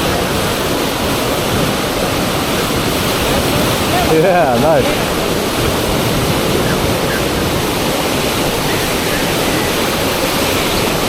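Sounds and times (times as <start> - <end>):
fast river water rushing: 0.0 - 11.0.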